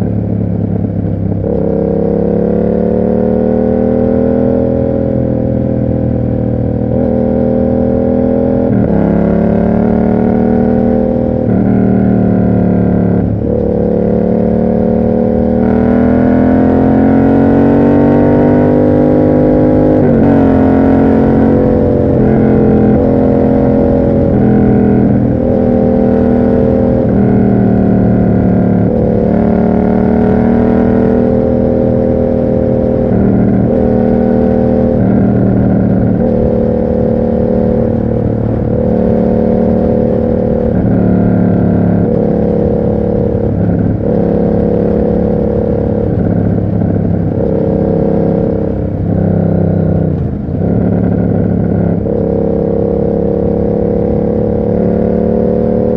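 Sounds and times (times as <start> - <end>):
motorcycle engine shifting gears: 0.0 - 55.9.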